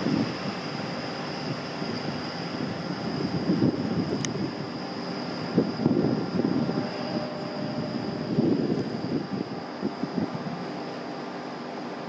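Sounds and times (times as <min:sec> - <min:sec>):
diesel train rumbling: 0:00.0 - 0:12.0
thin high whine: 0:00.0 - 0:12.0.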